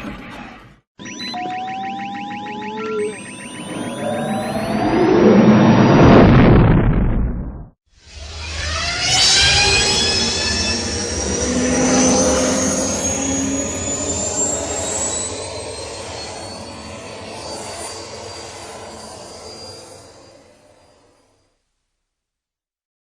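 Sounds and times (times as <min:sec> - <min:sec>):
rising multi-tone whine: 0:01.0 - 0:21.4.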